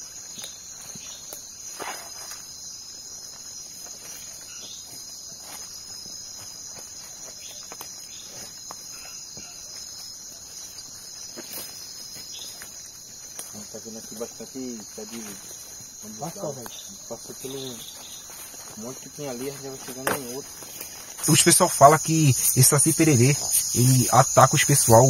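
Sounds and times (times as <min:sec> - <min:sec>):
night insects chorus: 0:00.0 - 0:25.0
rustling plants: 0:03.2 - 0:25.0
footsteps: 0:03.3 - 0:13.7, 0:14.9 - 0:25.0.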